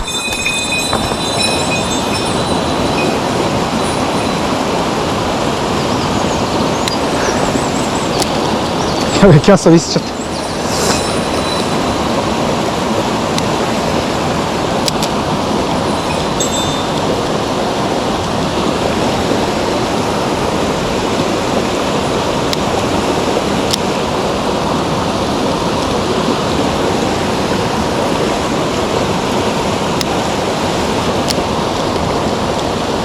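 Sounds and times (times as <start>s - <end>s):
stream rushing water: 0.0s - 33.0s.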